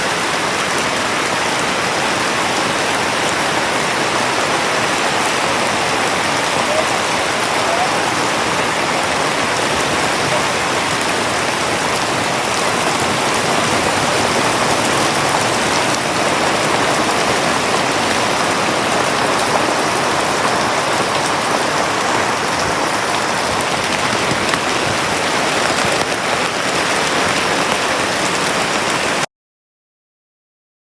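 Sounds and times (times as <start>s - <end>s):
rain pattering on tent canvas: 0.0s - 29.3s.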